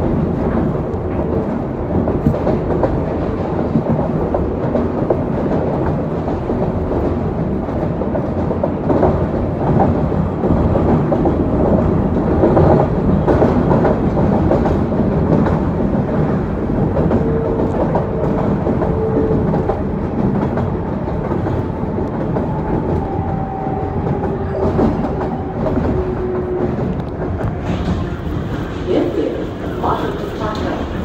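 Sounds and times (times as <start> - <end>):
subway car rumbling: 0.0 - 31.0.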